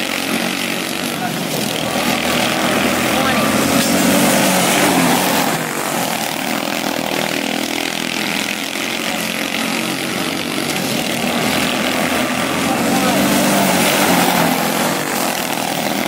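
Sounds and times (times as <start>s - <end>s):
small race car engines buzzing: 0.0s - 16.0s.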